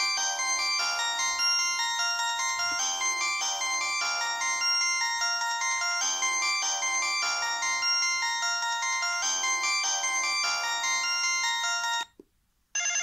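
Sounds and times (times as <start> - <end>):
phone ringtone melody: 0.0 - 12.1, 12.8 - 13.0.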